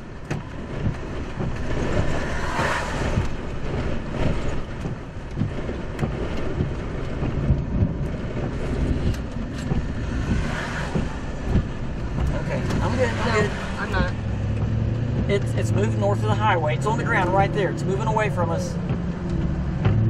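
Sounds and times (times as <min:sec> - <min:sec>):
rain on windshield: 0:00.0 - 0:20.0
strong wind buffeting vehicle: 0:00.0 - 0:20.0.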